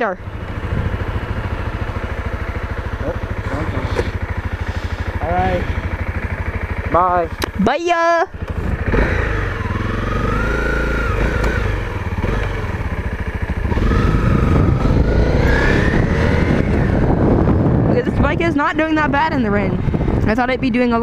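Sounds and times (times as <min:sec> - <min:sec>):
dirt bike engine accelerating: 0:00.0 - 0:21.0.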